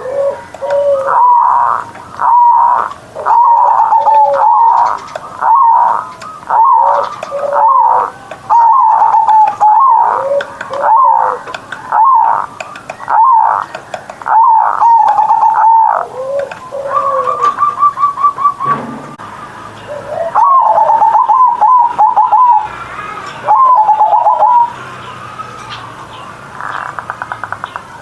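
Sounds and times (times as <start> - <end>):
dove cooing: 0.0 - 19.0, 19.9 - 24.8.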